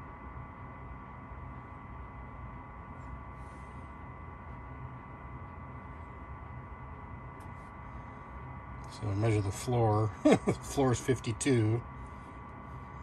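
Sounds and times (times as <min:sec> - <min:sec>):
faint high whine: 0:00.0 - 0:13.0
furnace blower fan humming: 0:00.0 - 0:13.0.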